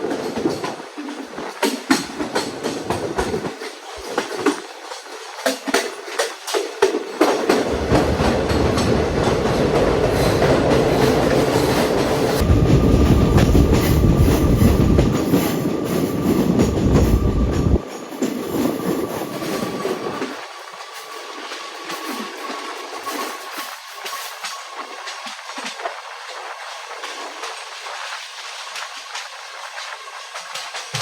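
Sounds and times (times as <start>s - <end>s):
train rumbling on rails: 0.0s - 28.1s, 30.0s - 31.0s
quiet train clatter: 0.0s - 31.0s.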